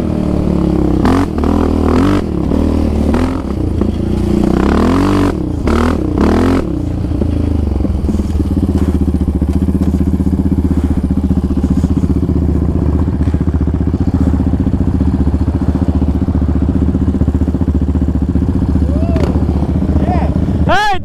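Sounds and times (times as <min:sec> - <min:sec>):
quad engine idling: 0:00.0 - 0:21.0.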